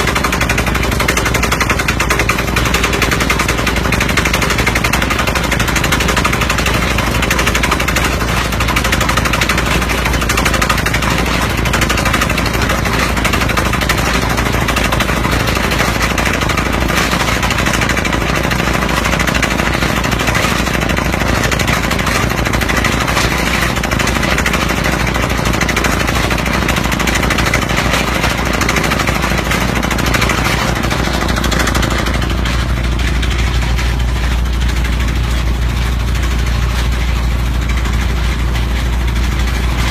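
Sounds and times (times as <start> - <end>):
air hammer pounding rock: 0.0 - 39.9
engine drone: 0.0 - 39.9.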